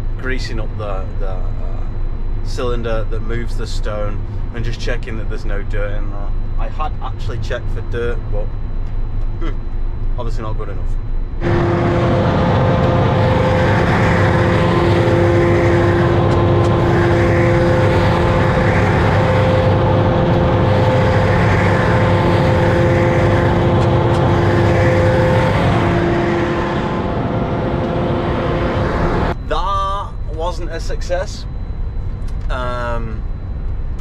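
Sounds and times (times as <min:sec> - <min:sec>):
harvester machine drone: 0:00.0 - 0:34.0.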